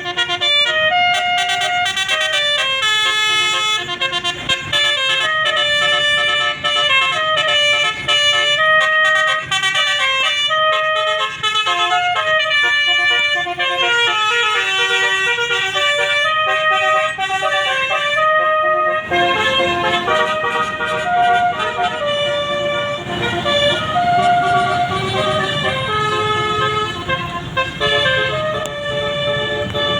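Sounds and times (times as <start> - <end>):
musical air horn melody: 0.0 - 29.9.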